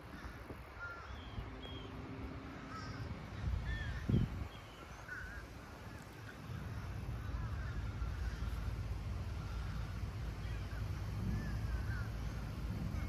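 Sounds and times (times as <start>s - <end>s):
faint bird calls: 0.0s - 13.0s
steady low rumble: 0.0s - 13.0s.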